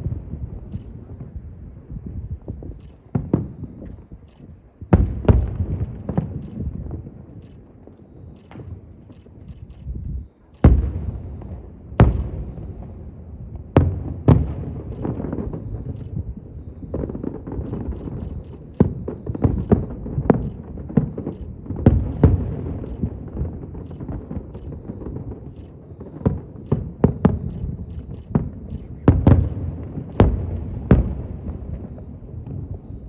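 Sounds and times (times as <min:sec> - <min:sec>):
fireworks bangs: 0:00.0 - 0:10.0, 0:10.6 - 0:33.0.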